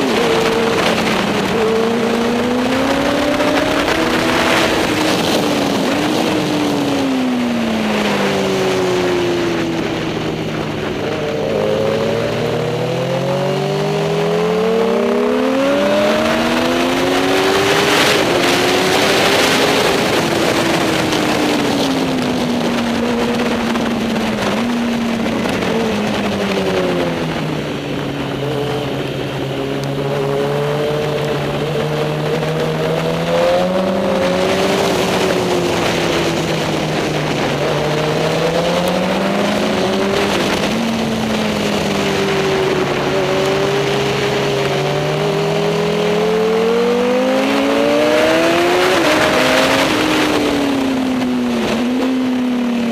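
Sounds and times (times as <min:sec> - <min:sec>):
racing motorcycle engines: 0:00.0 - 0:52.9.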